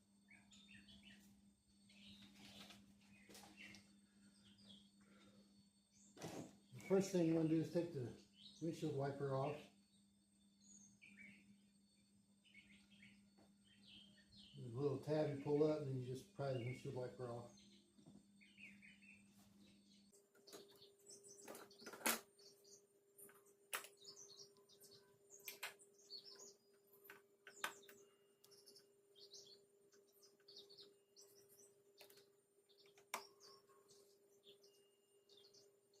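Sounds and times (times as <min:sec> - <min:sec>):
faint steady hum: 0:00.0 - 0:36.0
small birds chirping: 0:00.0 - 0:36.0.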